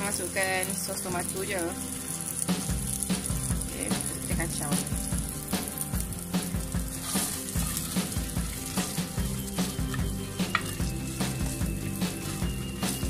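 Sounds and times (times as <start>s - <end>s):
sauce sizzling in a saucepan: 0.0s - 13.0s
spatula stirring: 1.3s - 13.0s
background music with a beat: 2.2s - 13.0s.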